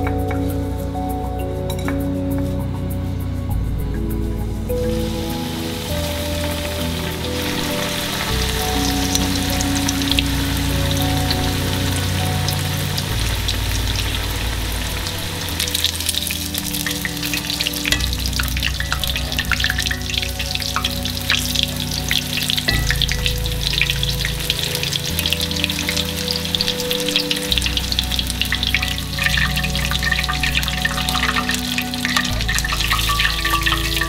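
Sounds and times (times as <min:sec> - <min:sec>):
chicken sizzling in oil: 0:04.8 - 0:34.0.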